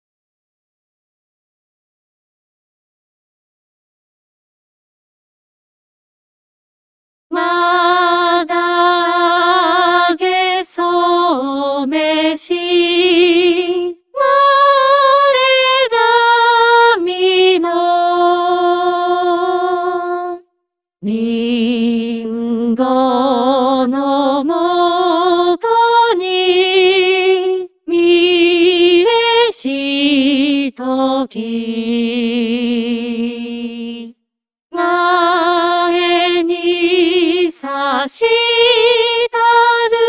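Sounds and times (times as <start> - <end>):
synthesized voices singing: 7.3 - 34.2, 34.8 - 40.0.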